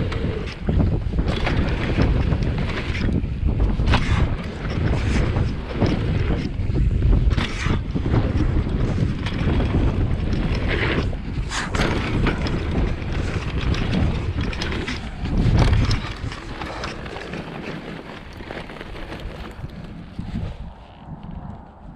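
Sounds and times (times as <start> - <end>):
bike tyres rolling on dirt: 0.0 - 21.9
wind buffeting microphone: 0.0 - 21.9.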